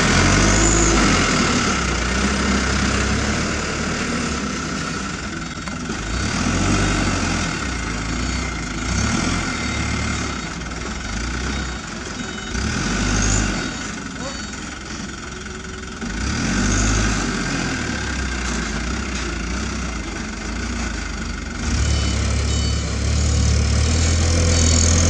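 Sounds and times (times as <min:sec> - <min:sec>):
diesel truck engine: 0:00.0 - 0:25.0.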